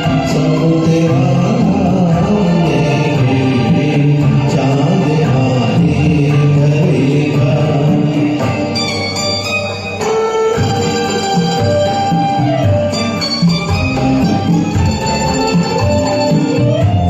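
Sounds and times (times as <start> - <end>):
karaoke backing track: 0.0 - 17.0.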